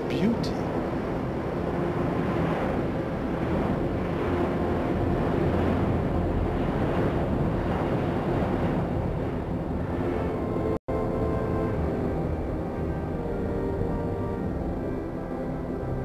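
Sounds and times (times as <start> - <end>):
jet roar overhead: 0.0 - 16.0.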